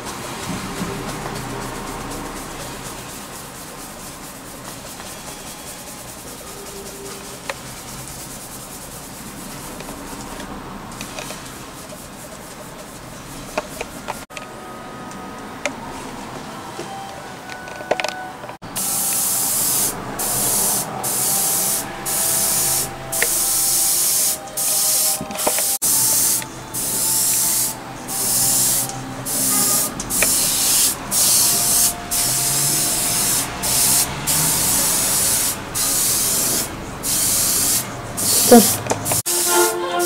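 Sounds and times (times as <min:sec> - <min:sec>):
airbrush spraying in hissing bursts: 0:00.0 - 0:14.2, 0:18.7 - 0:40.0.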